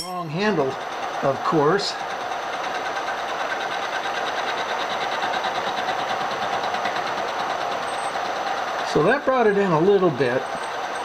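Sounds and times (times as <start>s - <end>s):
milling machine whirring: 0.0s - 11.0s.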